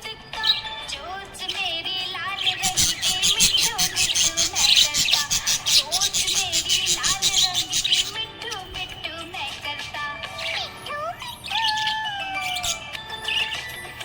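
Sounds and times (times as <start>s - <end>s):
budgerigar chirping and warbling: 0.3s - 14.0s.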